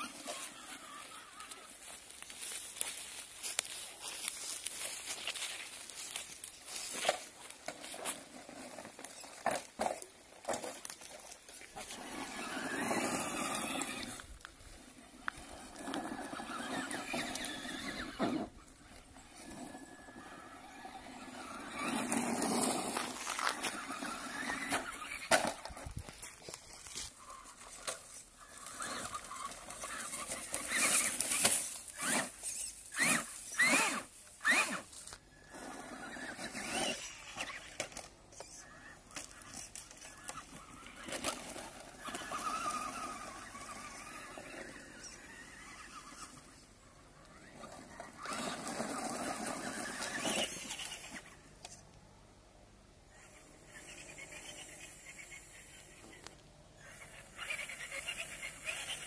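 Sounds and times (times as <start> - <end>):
tyres crunching over gravel: 0.0 - 51.7
electric motor whining: 8.0 - 51.8, 53.1 - 59.0.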